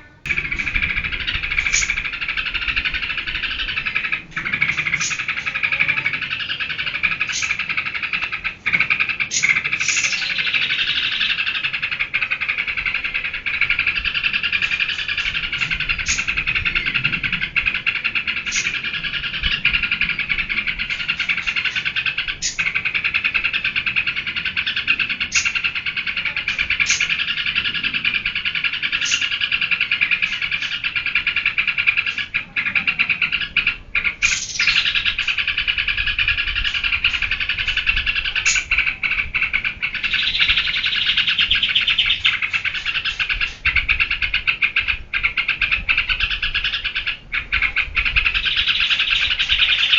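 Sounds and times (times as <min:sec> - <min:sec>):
bird chattering song: 0:00.0 - 0:49.9.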